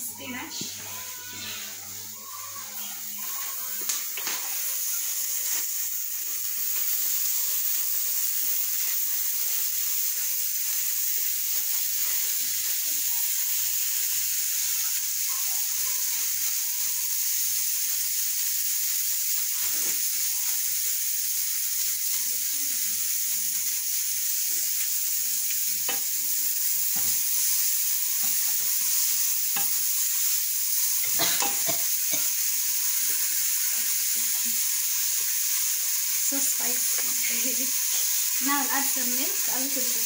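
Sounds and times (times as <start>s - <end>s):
vegetables sizzling in a pot: 0.0s - 40.0s.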